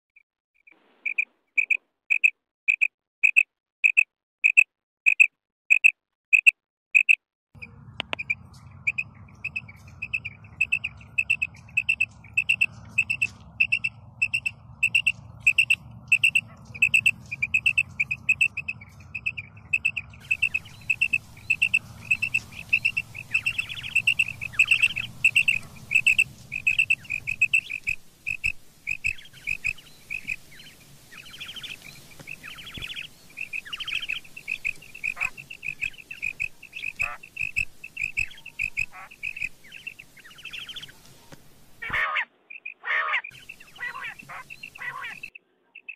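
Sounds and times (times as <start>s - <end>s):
quail calling: 8.0s - 41.0s, 41.8s - 45.9s.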